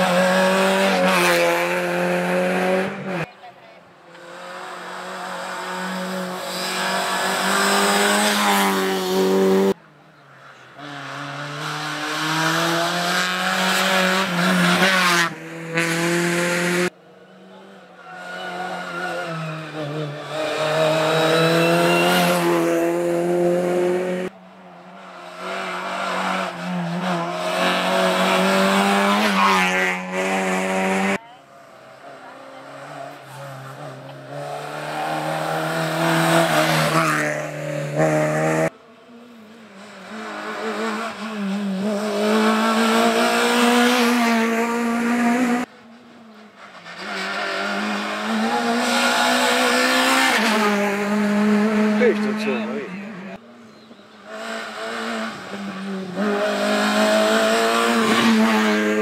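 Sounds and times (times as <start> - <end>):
rally car engine revving: 0.0 - 3.3, 4.0 - 9.8, 10.7 - 59.0.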